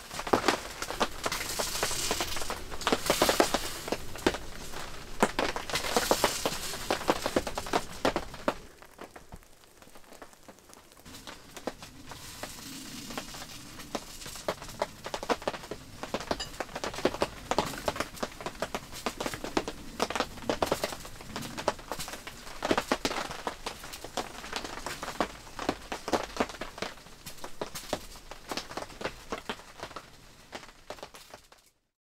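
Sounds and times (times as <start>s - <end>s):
wood fire crackling in a stove: 0.0s - 31.9s.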